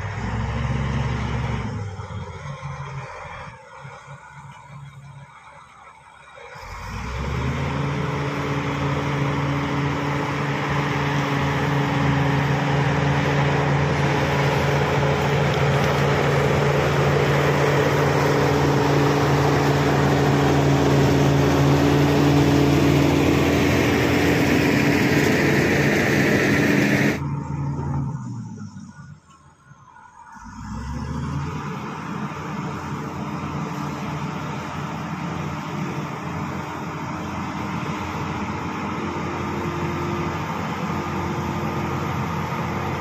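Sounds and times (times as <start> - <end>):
bulldozer diesel engine drone: 0.0 - 43.0.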